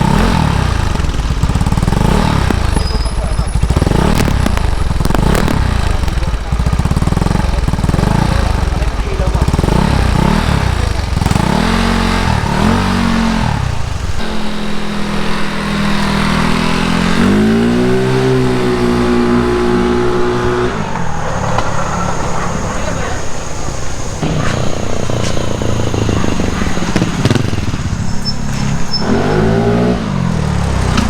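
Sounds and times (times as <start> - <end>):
scooter engine revving: 0.0 - 31.0.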